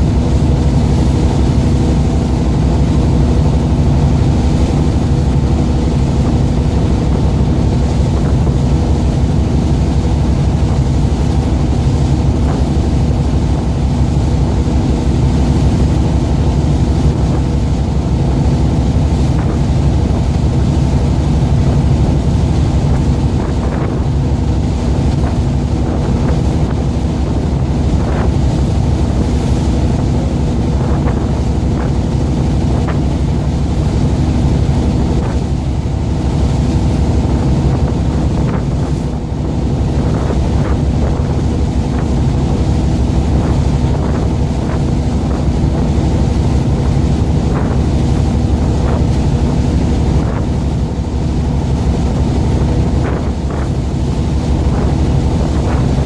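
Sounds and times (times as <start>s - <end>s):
boat engine running: 0.0s - 56.0s
water rushing and splashing: 0.0s - 56.0s
wind buffeting microphone: 0.0s - 56.0s.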